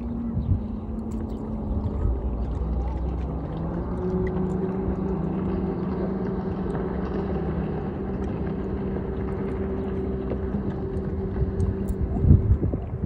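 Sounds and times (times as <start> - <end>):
boat engine humming: 0.0 - 13.0
water noise: 0.0 - 13.0
wind: 0.0 - 13.0.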